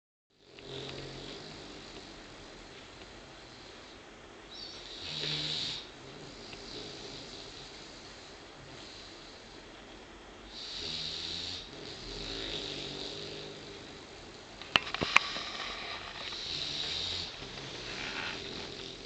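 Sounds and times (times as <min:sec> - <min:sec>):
puppy snoring: 0:00.4 - 0:03.8, 0:04.8 - 0:09.7, 0:10.5 - 0:19.0.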